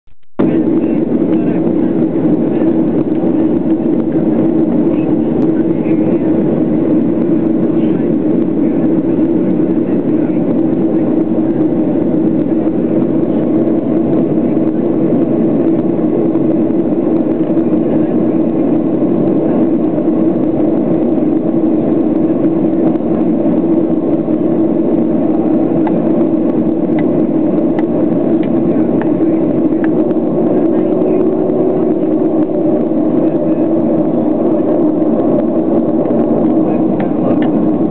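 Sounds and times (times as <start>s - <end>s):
airplane engine cabin hum: 0.1s - 37.9s.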